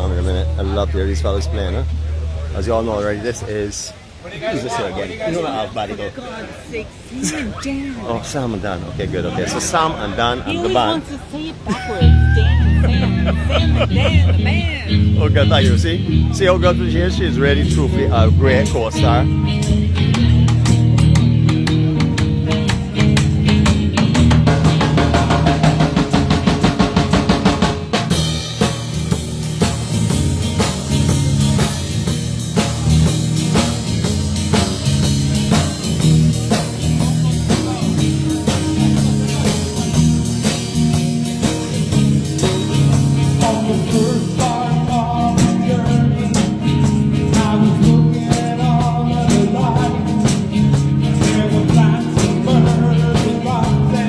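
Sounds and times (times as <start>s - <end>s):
live rock band playing: 0.0s - 4.2s, 10.5s - 54.0s.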